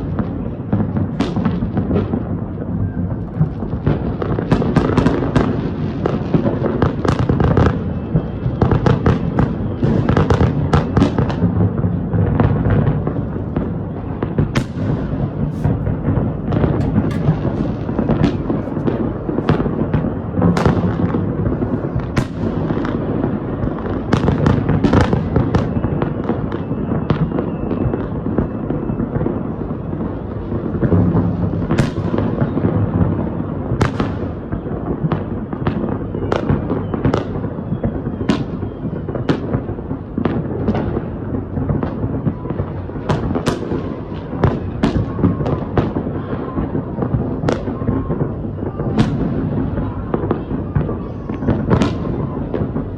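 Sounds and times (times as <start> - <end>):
firework bangs: 0.0 - 52.9
fireworks rumble and crackle: 0.0 - 52.9.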